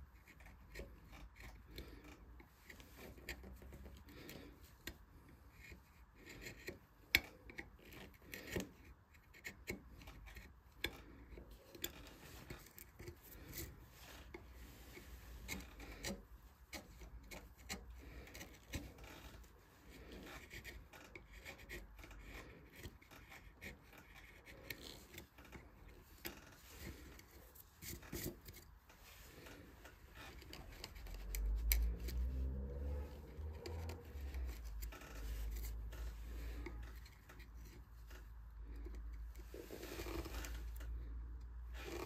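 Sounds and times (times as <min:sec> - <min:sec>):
carving tool scraping wood: 0:00.0 - 0:42.0.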